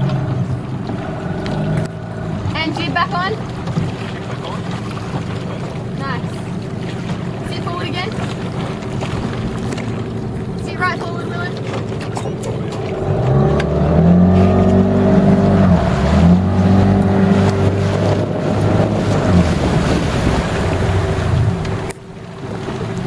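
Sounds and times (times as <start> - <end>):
outboard engine running: 0.0 - 23.0
wind: 0.0 - 23.0.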